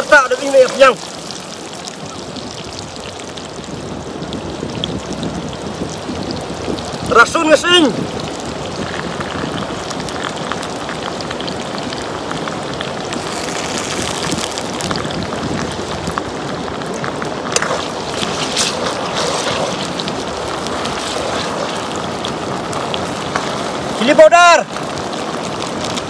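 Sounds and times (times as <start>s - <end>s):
broth simmering: 0.0s - 26.0s
wood fire hissing and crackling: 0.0s - 26.0s.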